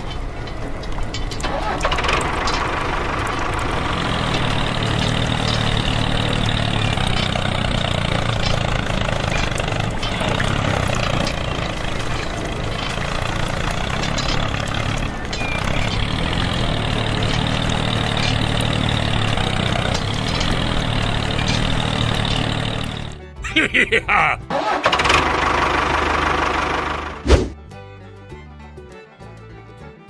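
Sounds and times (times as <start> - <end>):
tractor engine idling: 0.0 - 28.2.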